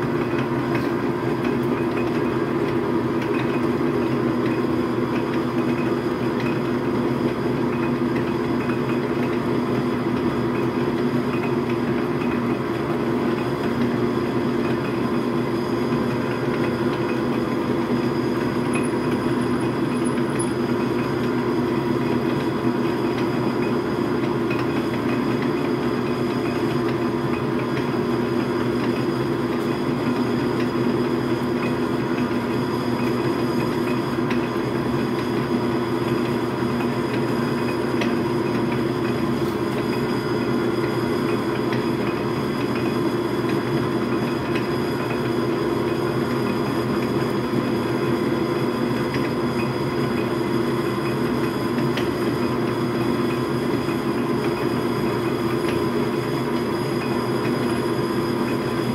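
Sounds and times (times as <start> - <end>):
drill cutting spinning workpiece: 0.0 - 58.9
metal lathe running: 0.0 - 58.9.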